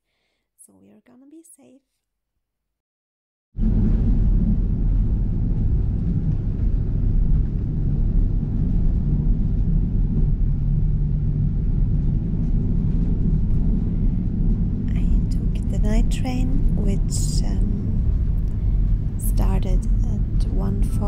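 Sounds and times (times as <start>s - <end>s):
train rumbling inside carriage: 3.6s - 21.0s.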